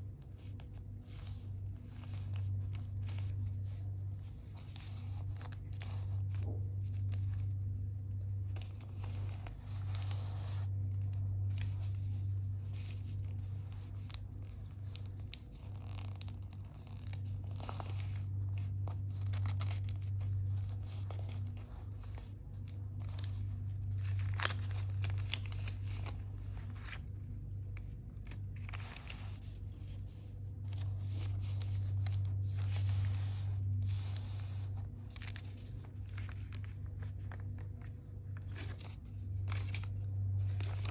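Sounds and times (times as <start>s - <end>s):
paper rustling and crackling: 0.0s - 40.9s
steady low hum: 0.0s - 40.9s.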